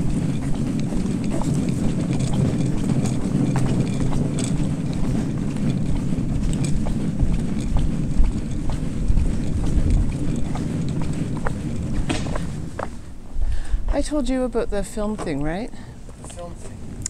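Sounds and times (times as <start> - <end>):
footsteps on asphalt: 0.0 - 17.0
steady low rumble: 0.0 - 17.0.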